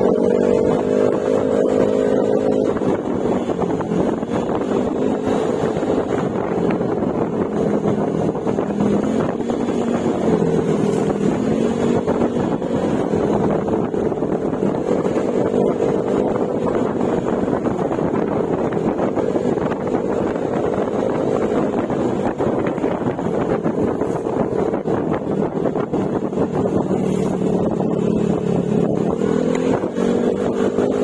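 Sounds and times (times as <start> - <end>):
scooter engine cruising: 0.0 - 31.0
wind on microphone: 0.0 - 31.0.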